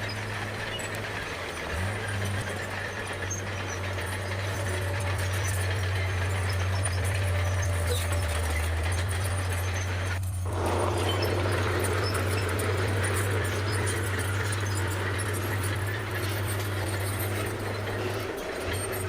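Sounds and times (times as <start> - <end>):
bulldozer diesel engine: 0.0 - 19.0.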